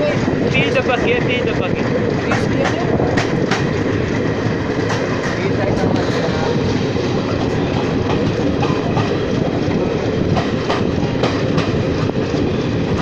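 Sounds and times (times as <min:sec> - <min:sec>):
train rumbling on track: 0:00.0 - 0:13.0
wheels clicking over rail joints: 0:00.0 - 0:13.0.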